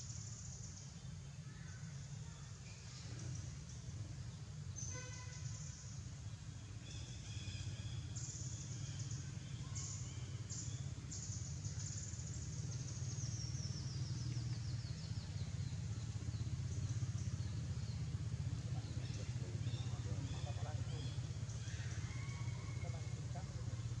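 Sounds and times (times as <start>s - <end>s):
steady low hum: 0.0s - 24.0s
birds chirping and trilling: 4.7s - 24.0s.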